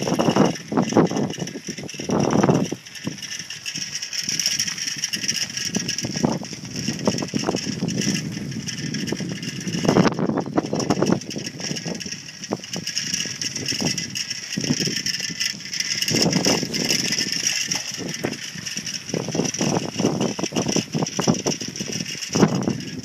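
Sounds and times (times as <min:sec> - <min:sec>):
bicycle parts rattling: 0:00.0 - 0:23.0
bicycle tyres on sandy path: 0:00.0 - 0:23.0.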